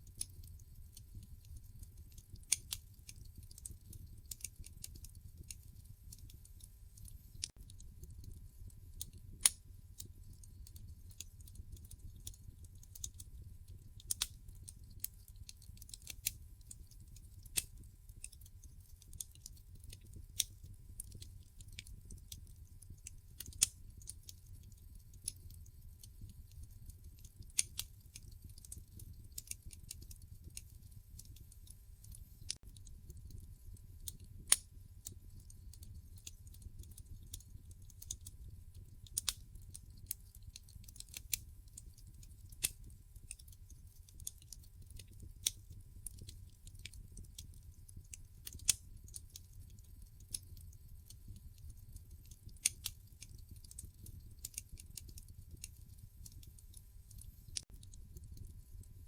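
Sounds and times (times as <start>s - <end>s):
burning logs crackling and popping: 0.0s - 58.6s
low rumble of flames: 0.1s - 58.6s.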